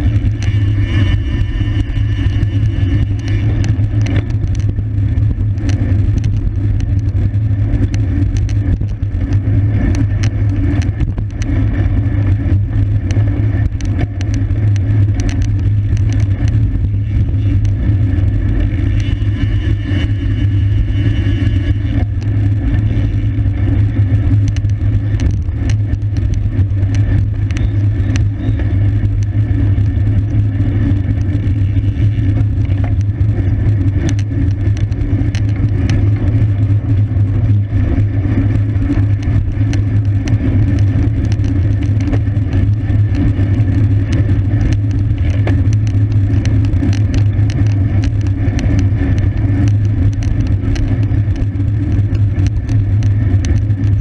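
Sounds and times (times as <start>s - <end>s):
bike clicks and rattles: 0.0s - 54.0s
wind rushing over microphone: 0.0s - 54.0s.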